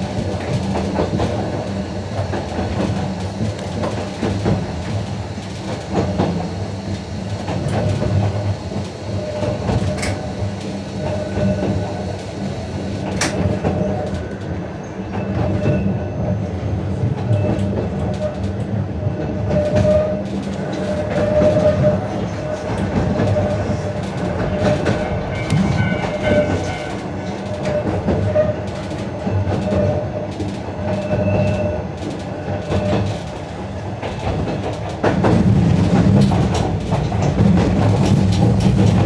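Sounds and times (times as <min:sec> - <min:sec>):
train motor hum and whine: 0:00.0 - 0:39.0.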